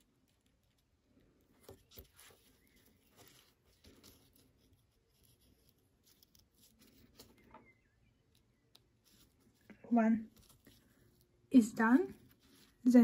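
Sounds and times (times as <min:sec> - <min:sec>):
thread pulled through fabric: 0:00.4 - 0:13.0.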